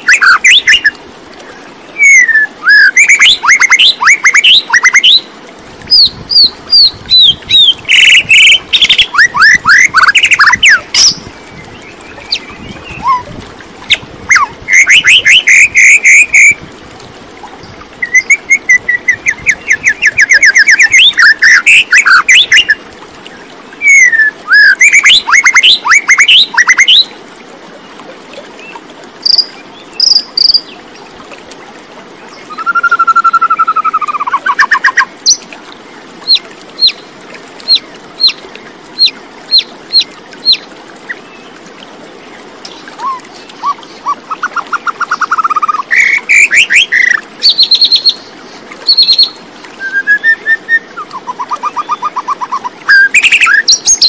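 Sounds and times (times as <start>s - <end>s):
songbirds singing: 0.0s - 5.3s, 5.9s - 16.6s, 17.6s - 27.2s, 27.8s - 31.1s, 32.2s - 54.0s.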